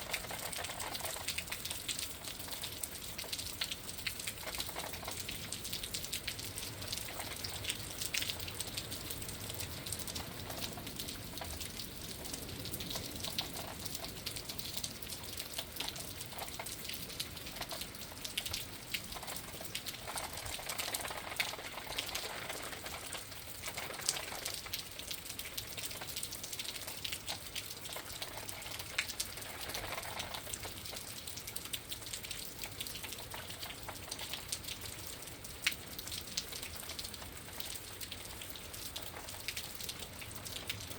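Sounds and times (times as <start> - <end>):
rain hiss: 0.0 - 40.9
raindrop ticks: 0.0 - 40.9
wind: 0.0 - 40.9.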